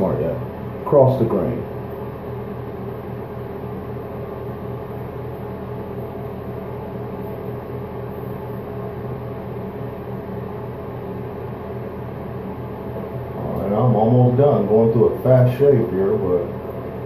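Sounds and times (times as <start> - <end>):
mechanical hum with low drone: 0.0 - 17.0.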